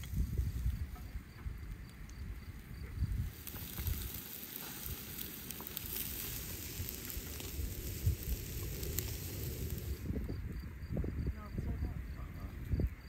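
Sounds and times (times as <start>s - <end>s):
kebabs sizzling on charcoal grill: 0.0s - 11.7s
wind rumble on microphone: 0.0s - 13.0s.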